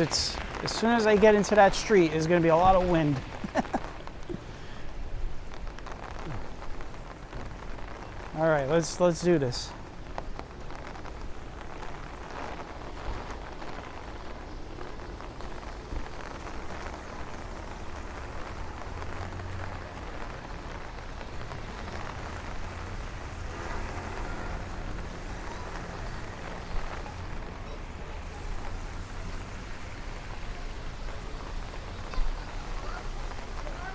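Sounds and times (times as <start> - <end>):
heavy rain on umbrella: 0.0 - 33.9.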